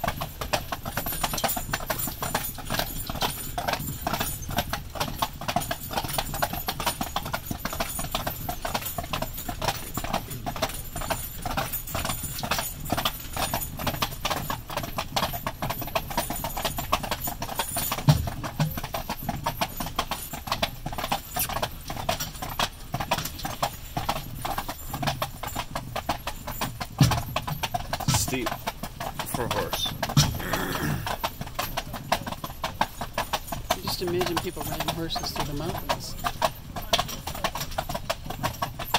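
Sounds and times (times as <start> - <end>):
horse hooves clip-clopping on pavement: 0.0 - 38.9.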